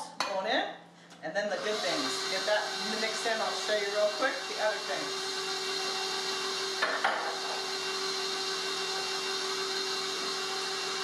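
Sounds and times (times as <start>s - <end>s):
stand mixer beating dough: 1.6s - 11.0s.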